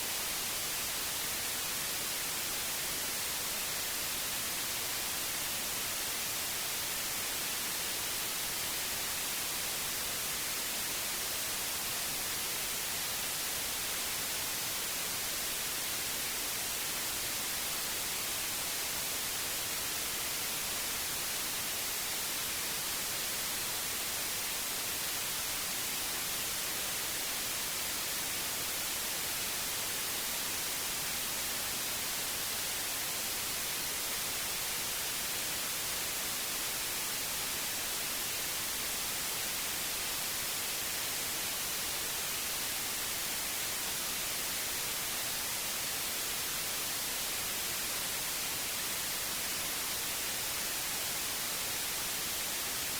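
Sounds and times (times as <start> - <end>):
white noise hiss: 0.0 - 52.9.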